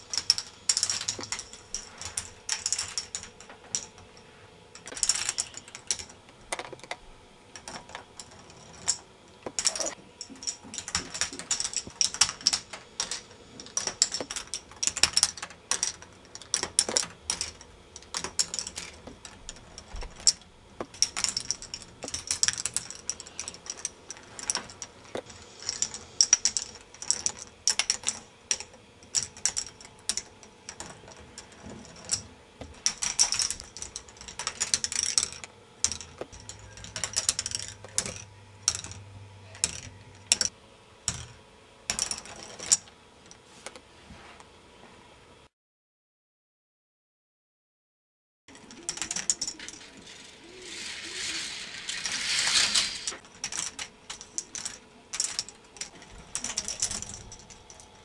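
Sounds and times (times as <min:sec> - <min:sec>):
plastic balls clattering on tracks: 0:00.0 - 0:04.2, 0:04.8 - 0:40.5, 0:48.5 - 0:58.0
faint steady hum: 0:00.0 - 0:45.5, 0:48.5 - 0:58.0.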